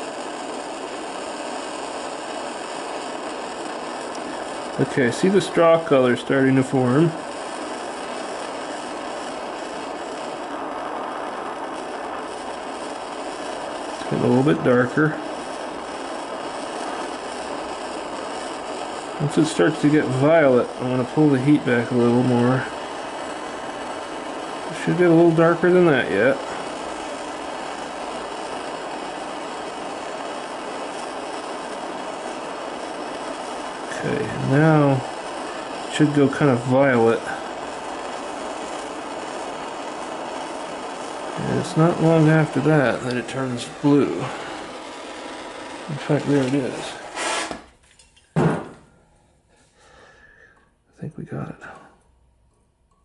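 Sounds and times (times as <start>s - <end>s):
gas torch flame hissing: 0.0s - 52.0s.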